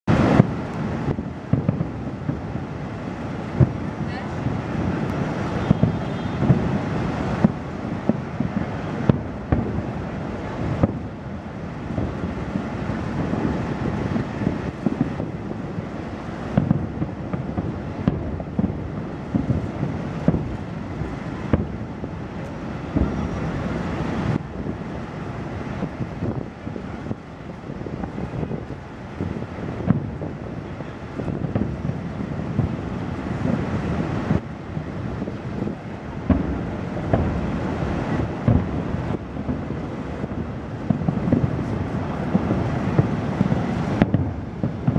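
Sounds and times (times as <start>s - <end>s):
distant fireworks bursting: 0.1s - 44.9s.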